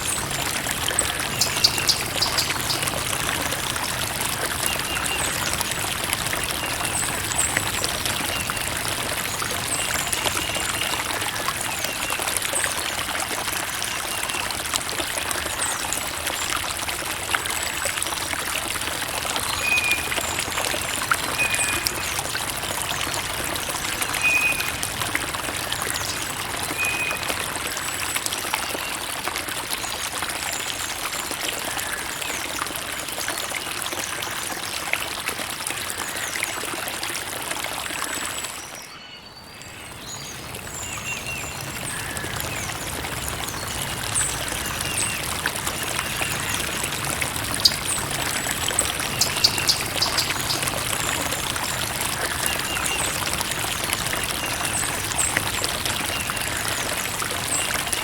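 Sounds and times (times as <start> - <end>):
creek water babbling over stones: 0.0 - 58.0.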